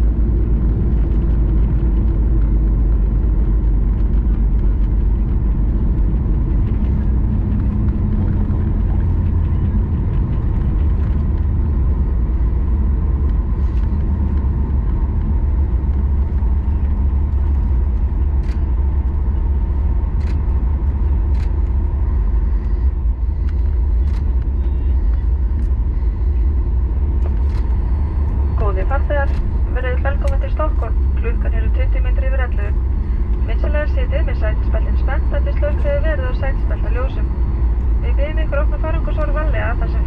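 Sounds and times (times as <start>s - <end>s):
airliner cabin rumble: 0.0s - 40.0s
faint steady whine: 4.0s - 40.0s.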